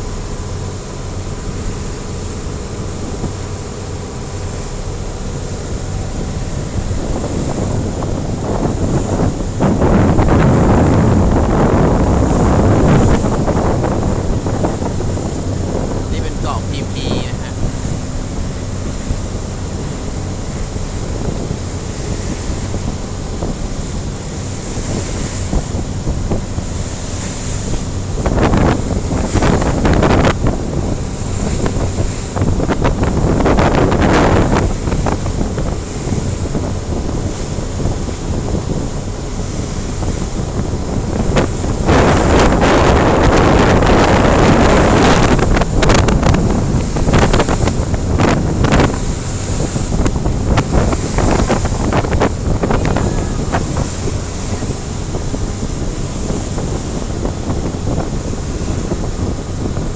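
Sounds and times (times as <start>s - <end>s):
boat engine running: 0.0s - 59.9s
wind and water rushing: 0.0s - 59.9s.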